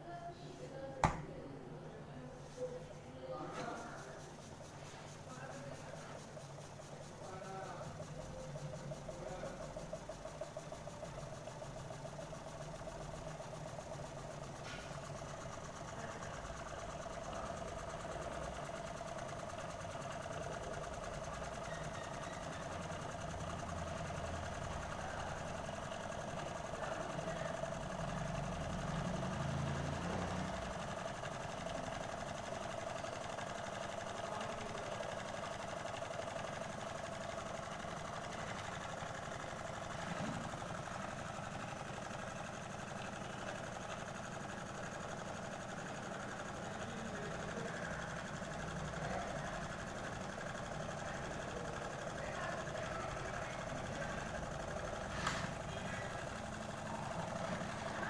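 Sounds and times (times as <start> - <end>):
model engine whirring and clattering: 3.4 - 58.0.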